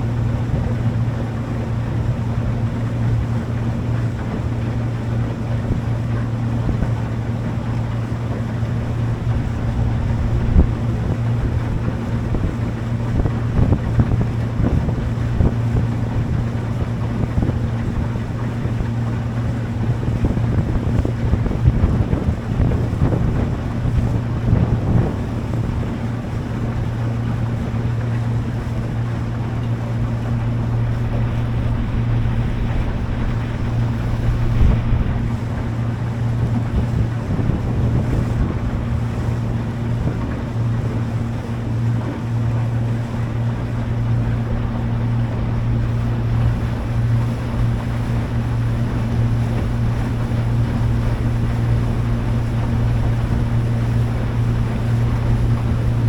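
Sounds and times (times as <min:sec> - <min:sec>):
boat engine humming: 0:00.0 - 0:56.0
water rushing along hull: 0:00.0 - 0:56.0
wind buffeting microphone: 0:00.0 - 0:56.0.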